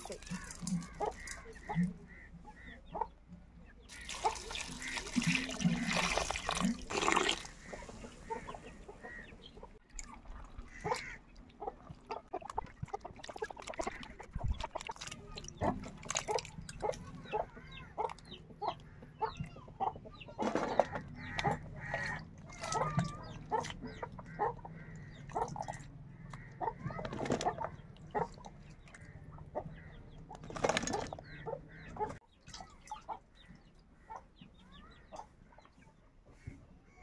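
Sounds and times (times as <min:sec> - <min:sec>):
chickens clucking: 0:00.0 - 0:36.6.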